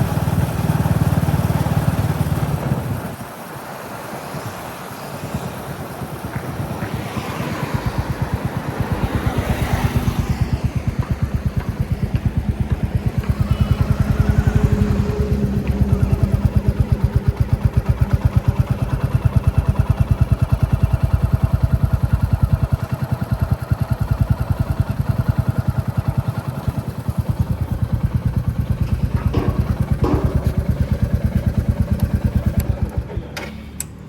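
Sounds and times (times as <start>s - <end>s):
motorcycle engine thumping: 6.2s - 34.0s.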